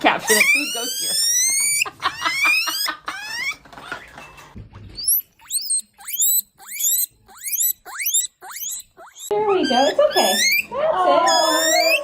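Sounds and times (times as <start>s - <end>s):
guinea pig squealing: 0.0s - 4.2s, 4.9s - 12.0s.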